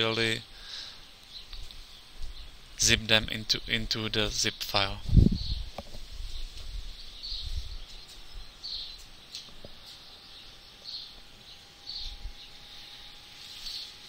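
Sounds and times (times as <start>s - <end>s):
small bird chirping: 0.0s - 3.8s, 4.4s - 14.0s.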